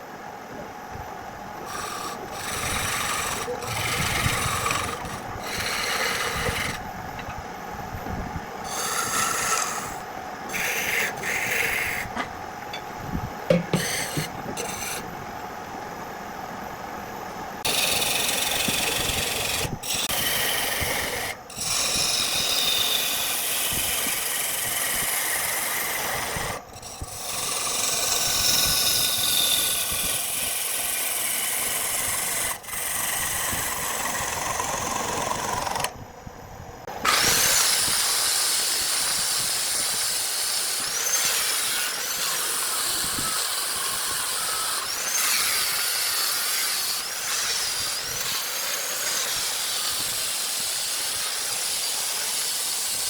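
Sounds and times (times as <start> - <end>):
power tools cutting wood: 1.6 - 6.8, 8.6 - 12.3, 13.5 - 15.0, 17.6 - 35.9, 37.0 - 53.0.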